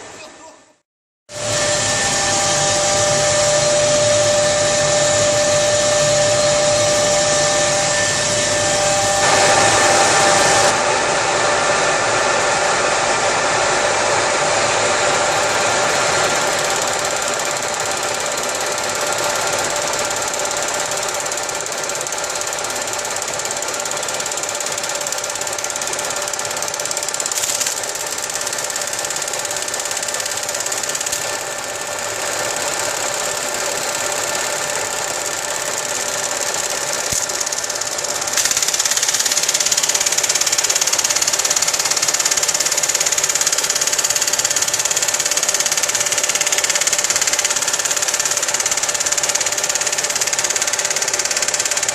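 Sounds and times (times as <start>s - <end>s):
lathe cutting with high hiss: 1.3s - 51.9s
lathe motor humming: 1.4s - 51.9s.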